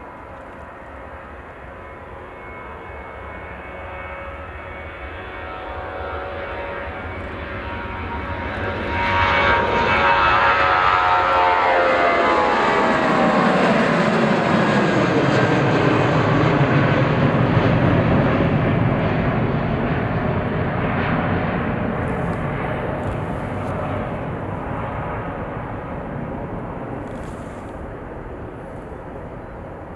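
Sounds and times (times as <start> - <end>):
jet engines passing: 0.0 - 29.9.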